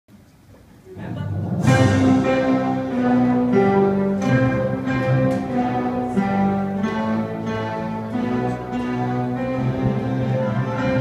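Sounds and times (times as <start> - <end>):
electronic keyboards playing ensemble: 0.9 - 11.0.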